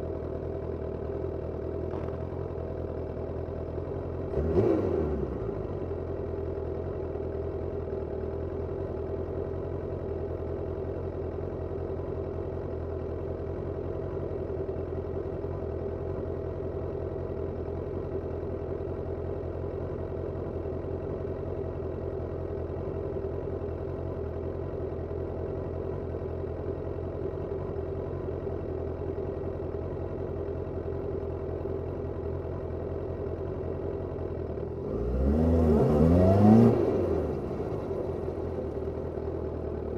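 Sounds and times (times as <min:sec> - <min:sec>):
motorcycle engine idling: 0:00.0 - 0:35.7, 0:36.8 - 0:39.9.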